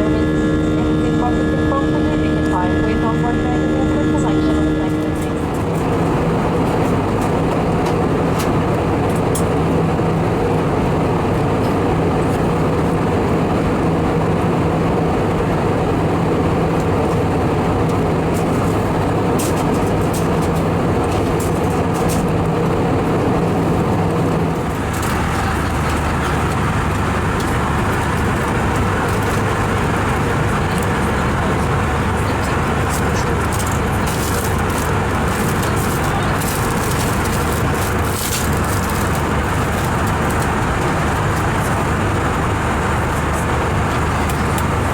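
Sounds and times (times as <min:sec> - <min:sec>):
airplane cabin engine drone: 0:00.0 - 0:44.9
low hum: 0:00.0 - 0:44.9.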